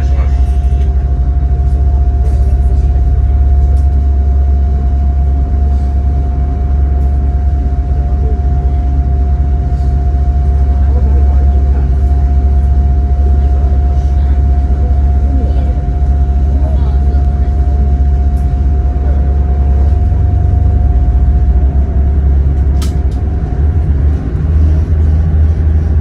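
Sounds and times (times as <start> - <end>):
boat engine drone: 0.0 - 26.0
steady engine whine: 0.0 - 26.0.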